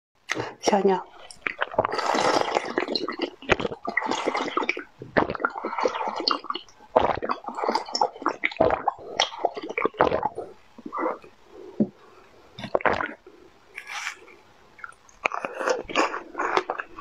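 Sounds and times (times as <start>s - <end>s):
person slurping liquid: 1.1s - 12.0s, 12.6s - 17.0s.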